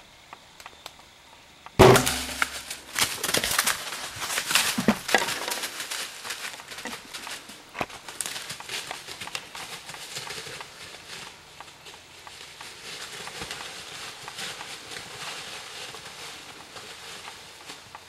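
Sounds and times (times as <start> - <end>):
footsteps on dry leaves: 1.8 - 18.0.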